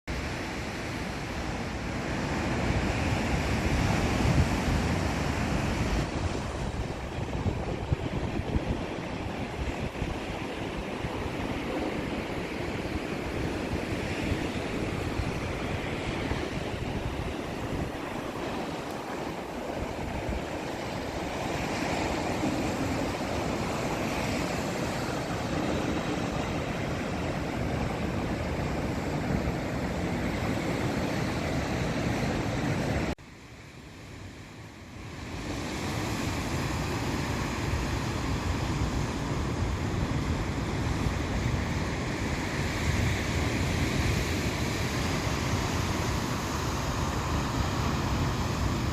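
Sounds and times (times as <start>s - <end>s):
surf breaking on beach: 0.2s - 33.2s, 35.1s - 48.9s.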